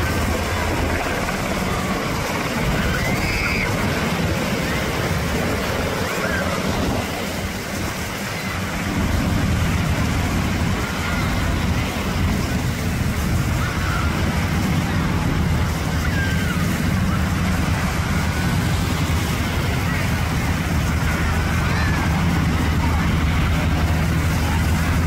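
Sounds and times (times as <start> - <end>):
helicopter rotor drone: 0.0 - 25.0
people's voices: 0.0 - 25.0
surf: 0.0 - 25.0.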